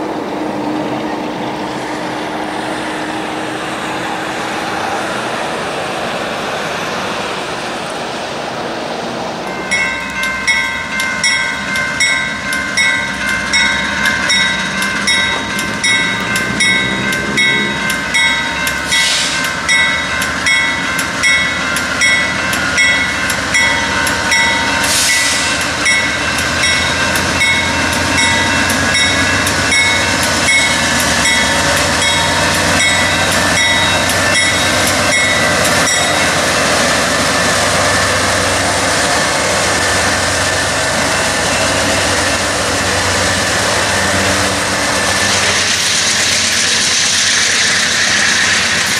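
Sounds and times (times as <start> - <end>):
train wheels clicking over rail joints: 9.5 - 48.9.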